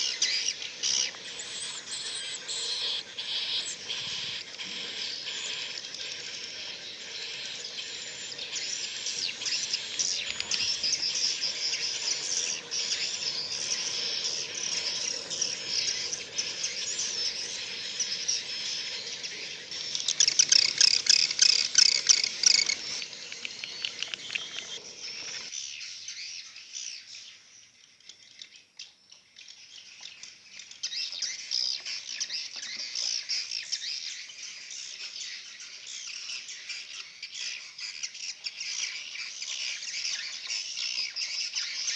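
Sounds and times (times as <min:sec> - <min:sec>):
swiftlets chirping and twittering: 0:00.0 - 0:27.3, 0:29.6 - 0:41.9.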